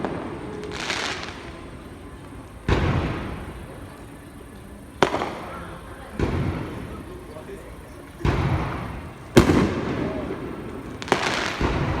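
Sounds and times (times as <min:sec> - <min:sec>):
fireworks booms echoing: 0:00.0 - 0:12.0
fireworks hissing crackle: 0:00.0 - 0:12.0.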